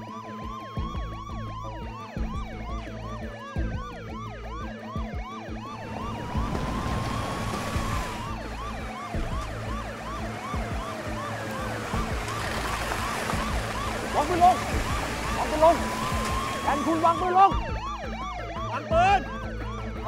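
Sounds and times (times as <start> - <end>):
police siren slow wail: 0.0 - 20.0
police siren fast yelp: 0.1 - 20.0.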